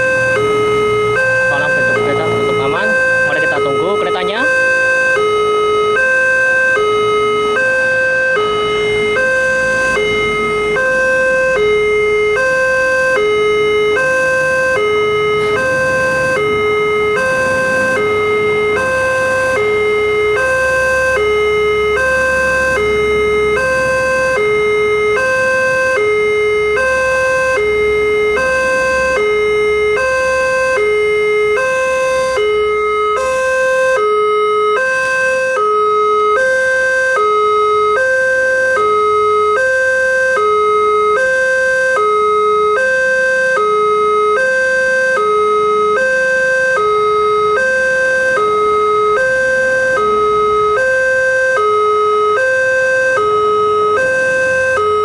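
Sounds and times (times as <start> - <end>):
level crossing two-tone alarm: 0.0 - 55.0.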